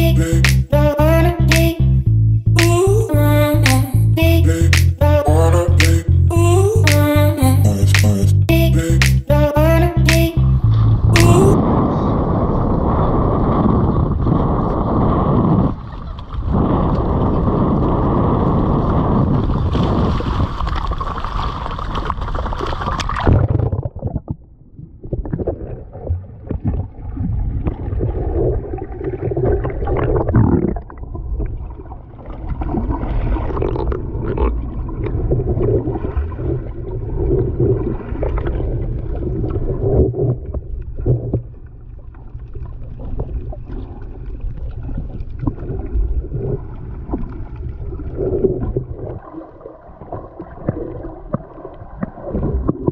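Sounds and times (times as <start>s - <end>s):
underwater rumbling and gurgling: 9.7s - 52.9s.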